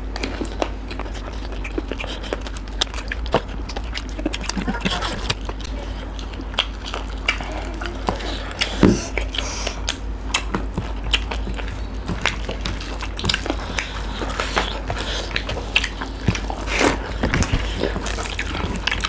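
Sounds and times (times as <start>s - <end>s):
person chewing and biting food: 0.0s - 19.0s
steady low hum: 0.0s - 19.0s.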